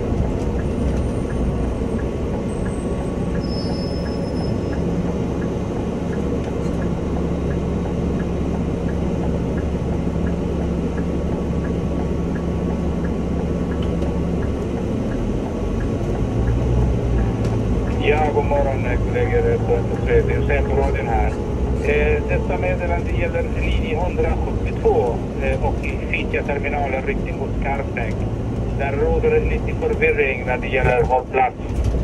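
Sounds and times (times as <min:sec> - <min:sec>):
faint regular ticking: 0:00.0 - 0:31.4
bus engine hum: 0:00.0 - 0:32.0.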